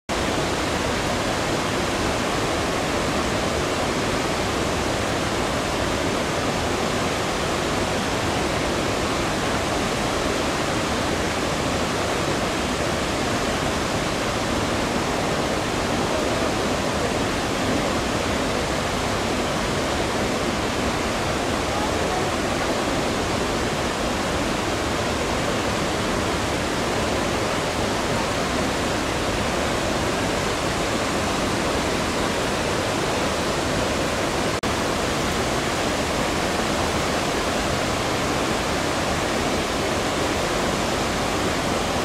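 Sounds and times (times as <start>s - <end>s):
rushing stream water: 0.1s - 42.0s.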